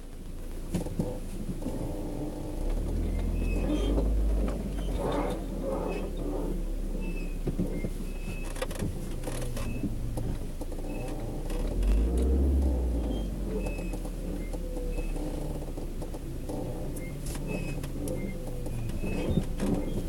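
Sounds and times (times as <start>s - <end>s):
car road rumble: 0.0s - 20.0s
suspension creaking: 0.8s - 20.0s.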